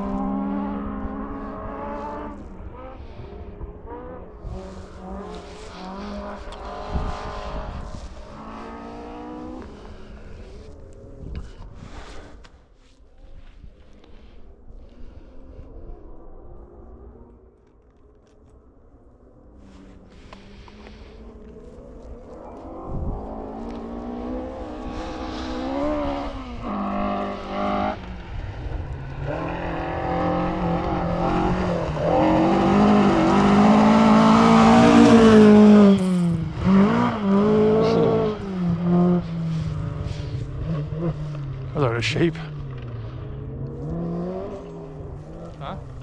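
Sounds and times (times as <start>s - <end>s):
rally car engine revving: 0.0s - 12.3s, 19.7s - 46.0s.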